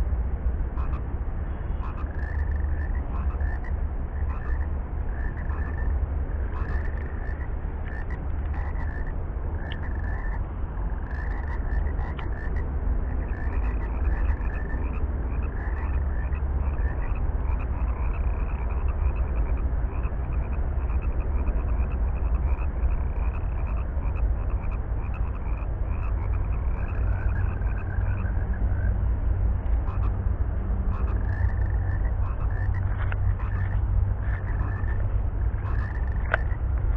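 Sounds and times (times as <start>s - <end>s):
frogs croaking: 0.0s - 36.9s
steady low rumble: 0.0s - 36.9s.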